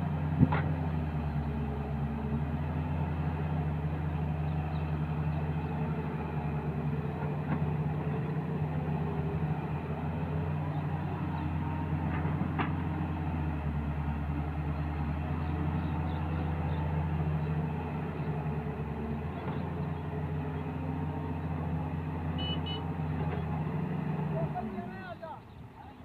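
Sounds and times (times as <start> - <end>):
excavator diesel engine running: 0.0 - 25.7.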